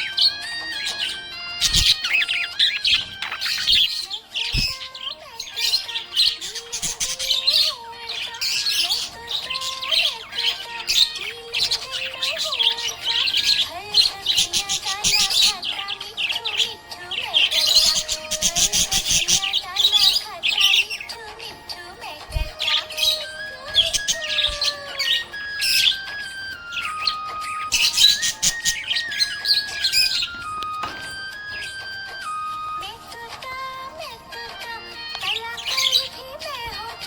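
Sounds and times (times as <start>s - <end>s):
budgerigars chirping and warbling: 0.0s - 37.0s
faint background melody: 0.0s - 37.0s.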